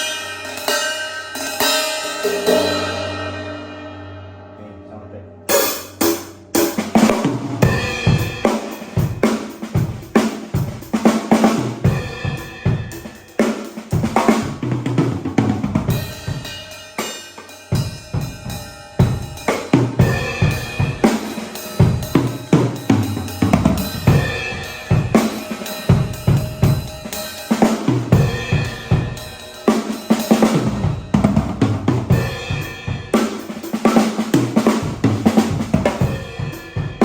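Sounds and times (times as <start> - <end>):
cymbals: 0.0 - 37.0.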